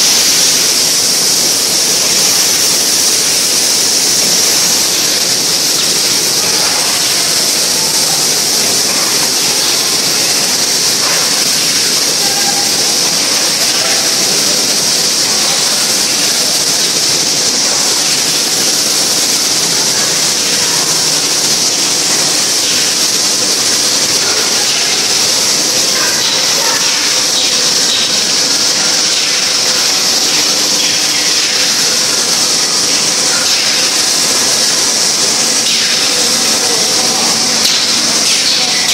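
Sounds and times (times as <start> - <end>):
factory machinery hissing: 0.0 - 38.9.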